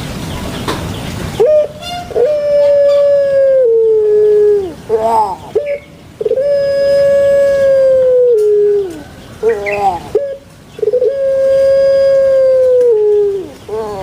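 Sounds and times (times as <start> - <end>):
dove calling: 1.0 - 14.0.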